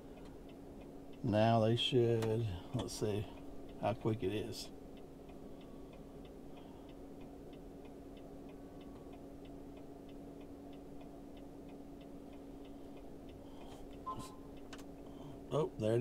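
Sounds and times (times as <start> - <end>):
faint steady hum: 0.0 - 16.0
light even ticking: 0.0 - 16.0.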